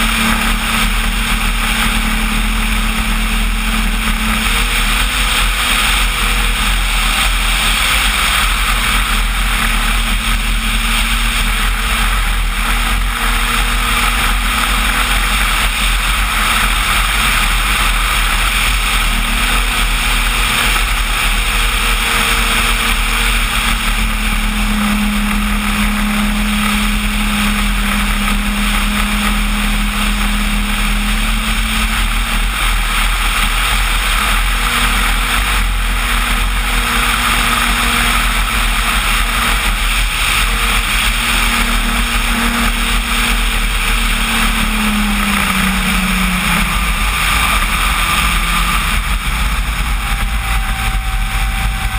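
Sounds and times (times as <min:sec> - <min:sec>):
electric motor and propeller: 0:00.0 - 0:51.9
rush of air: 0:00.0 - 0:51.9.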